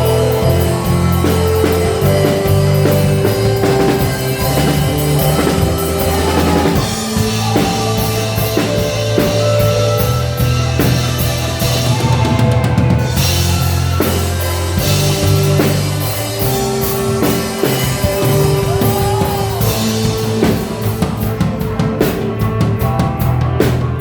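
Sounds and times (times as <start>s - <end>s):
drum kit hits: 0.0s - 24.0s
electric bass notes: 0.0s - 24.0s
live rock band playing: 0.0s - 24.0s.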